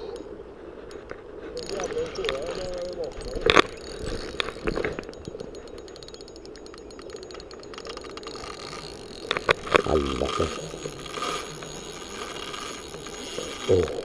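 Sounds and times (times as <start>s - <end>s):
fishing reel ticking: 0.0s - 14.0s
sharp clicks at reel: 1.6s - 14.0s.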